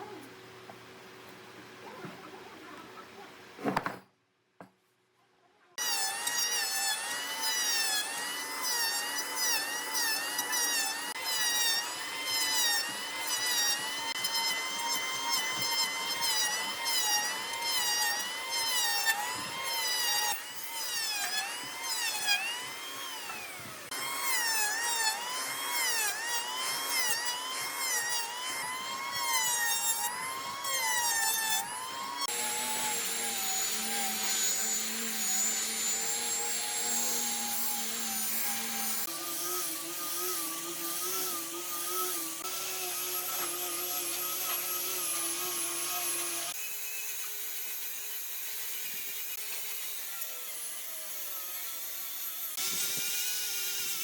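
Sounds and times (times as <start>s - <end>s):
power tool whining on wood: 5.8s - 54.0s.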